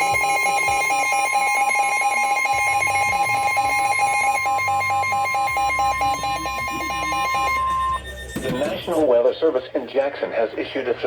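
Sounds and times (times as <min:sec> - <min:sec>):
rapid electronic beeping: 0:00.0 - 0:09.3
steady alarm tone: 0:00.0 - 0:09.3.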